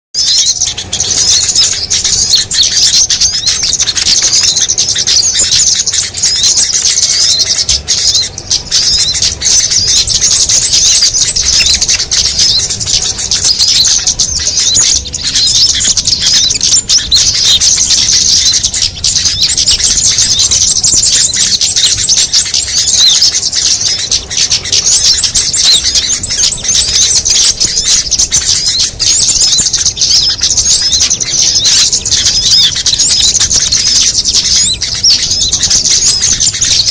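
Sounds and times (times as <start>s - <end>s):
small songbirds chirping: 0.1s - 36.9s.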